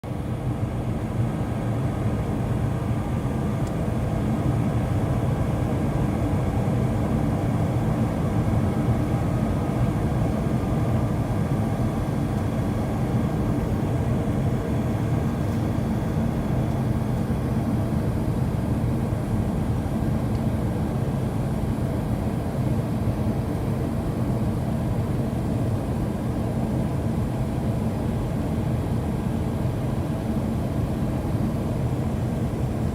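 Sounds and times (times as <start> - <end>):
jet engines droning: 0.1 - 32.9.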